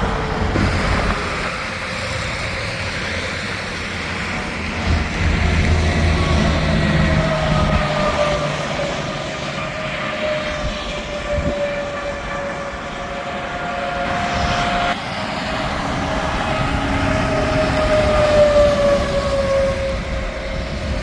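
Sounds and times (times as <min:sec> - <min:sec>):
passing vehicle whine: 0:00.0 - 0:21.0
tyres rushing on road: 0:00.0 - 0:21.0.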